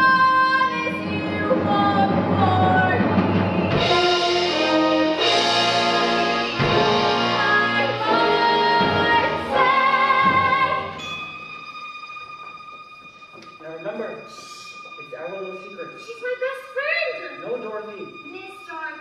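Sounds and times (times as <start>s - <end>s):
orchestral accompaniment: 0.0s - 19.0s.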